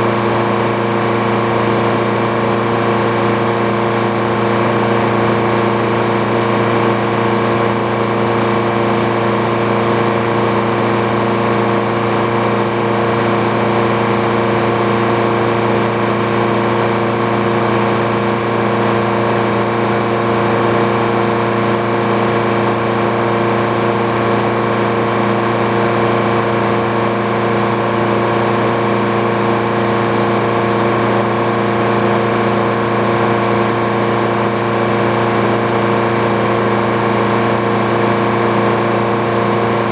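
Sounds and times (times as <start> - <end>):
sawmill engine hum and whine: 0.0 - 39.9.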